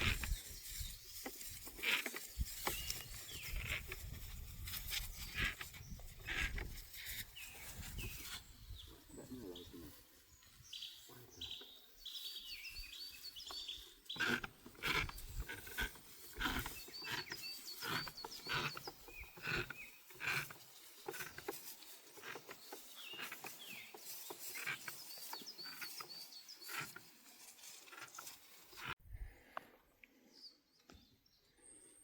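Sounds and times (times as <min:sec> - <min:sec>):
birds chirping and singing: 0:00.0 - 0:29.0
rustling and scraping noises: 0:00.0 - 0:29.0.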